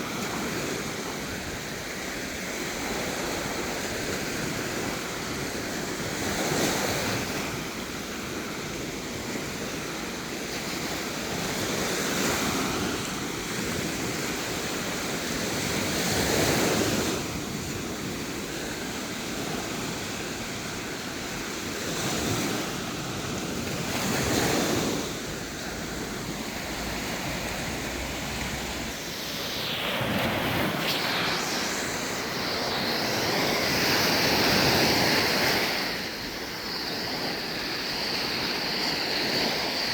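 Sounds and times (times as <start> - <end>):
sea waves washing onto beach: 0.0 - 39.9
wind on microphone: 0.0 - 39.9.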